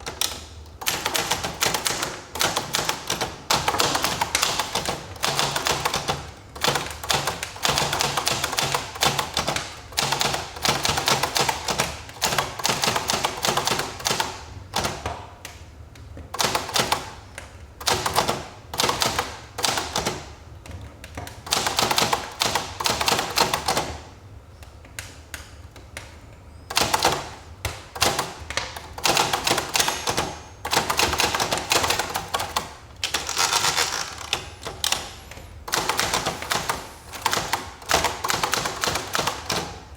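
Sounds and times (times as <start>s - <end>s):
typewriter keystroke clacks: 0.0s - 15.6s, 16.3s - 24.0s, 26.7s - 39.8s.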